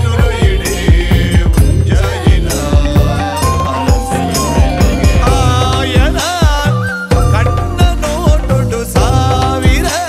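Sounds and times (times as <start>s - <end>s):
dance music with drum beat: 0.0s - 10.0s.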